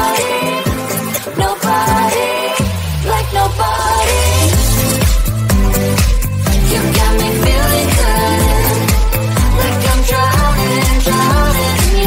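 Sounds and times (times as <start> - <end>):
pop music: 0.0 - 12.0.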